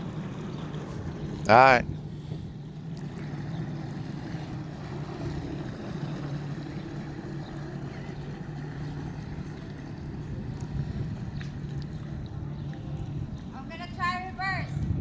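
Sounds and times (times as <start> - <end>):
jet ski engine idling: 0.0 - 14.7.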